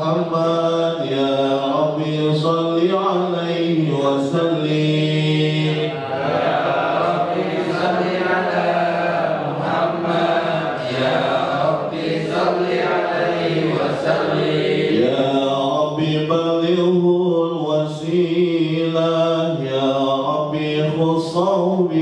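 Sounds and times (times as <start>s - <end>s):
melodic religious chanting: 0.0s - 22.0s.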